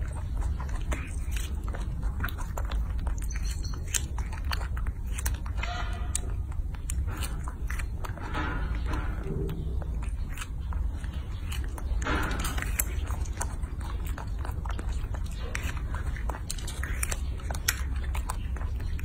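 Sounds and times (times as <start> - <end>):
low steady hum: 0.0 - 19.0
monkey chewing: 0.0 - 19.0.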